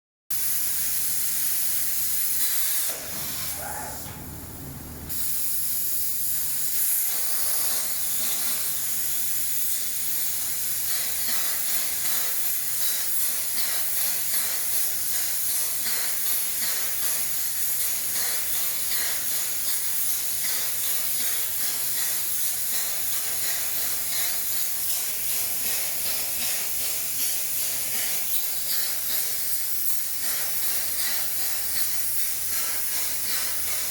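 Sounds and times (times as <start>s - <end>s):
plasma cutter hissing: 0.3s - 4.2s, 5.1s - 33.9s.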